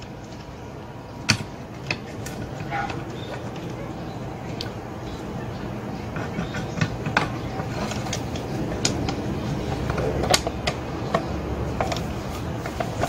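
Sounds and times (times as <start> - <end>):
clicks and knocks of parts: 0.0 - 3.9, 6.0 - 13.0
low background hum: 0.0 - 13.0.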